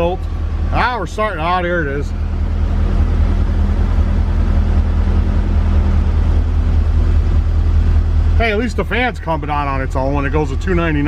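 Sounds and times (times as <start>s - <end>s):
car engine idling: 0.0s - 11.0s
radiator cooling fan running: 0.0s - 11.0s.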